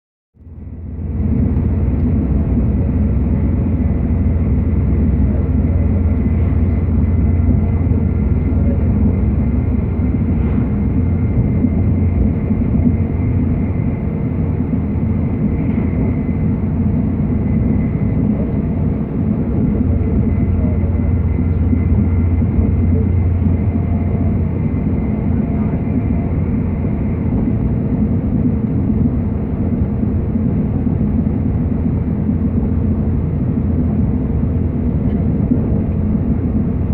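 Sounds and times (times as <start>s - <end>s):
faint steady whine: 0.4s - 36.9s
train rumbling inside carriage: 0.4s - 36.9s.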